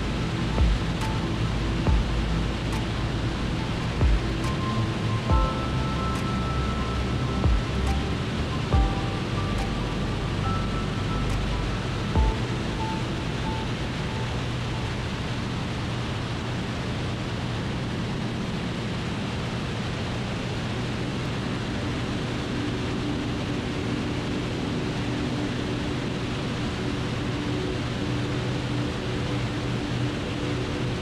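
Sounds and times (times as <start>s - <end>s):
heavy rushing noise: 0.0s - 31.0s
plane engine and propeller humming: 0.0s - 31.0s.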